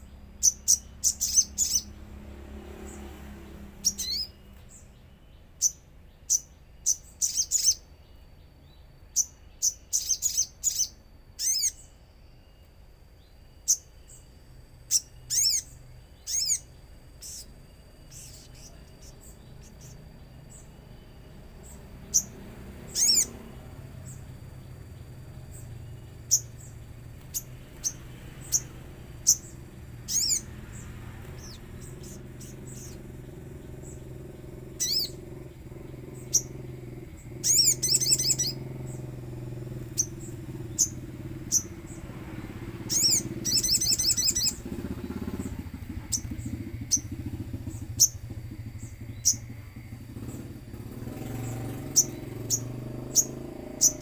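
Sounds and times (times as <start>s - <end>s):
bird calling high chips: 0.0s - 2.0s, 3.8s - 4.9s, 5.6s - 7.9s, 9.2s - 12.8s, 13.6s - 54.0s
bird trills: 0.0s - 2.2s, 3.8s - 54.0s
steady low hum: 0.0s - 54.0s.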